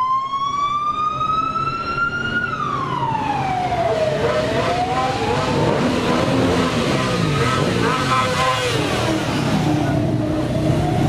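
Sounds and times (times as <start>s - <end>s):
emergency siren wailing: 0.0s - 11.0s
vehicle engine noise: 0.1s - 11.0s.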